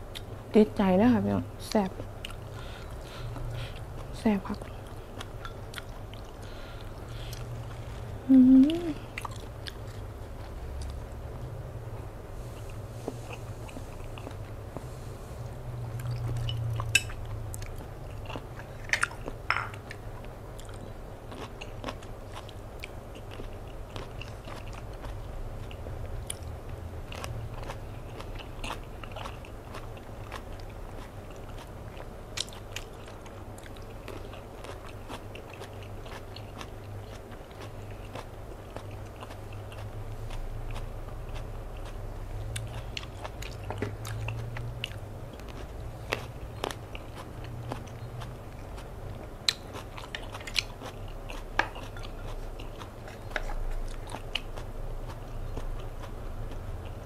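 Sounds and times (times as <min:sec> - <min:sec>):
wet chewing with mouth clicks: 0:01.9 - 0:07.6, 0:08.4 - 0:11.5, 0:12.5 - 0:57.0.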